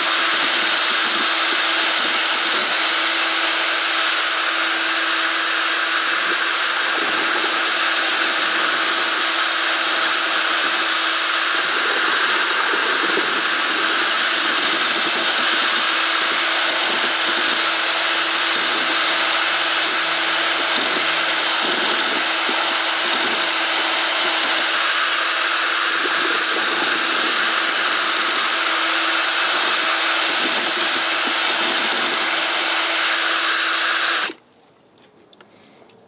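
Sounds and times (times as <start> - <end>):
electric drill mixing slurry: 0.0 - 34.4.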